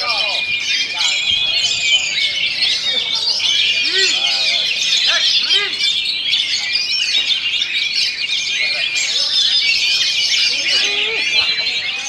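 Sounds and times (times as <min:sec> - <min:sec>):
bird singing chirps and trills: 0:00.0 - 0:12.0.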